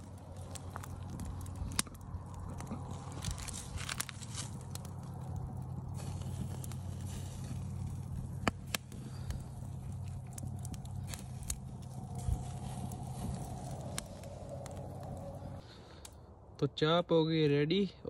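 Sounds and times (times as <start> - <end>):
campfire crackling and popping: 0.0 - 16.4
steady low hum: 0.0 - 16.6.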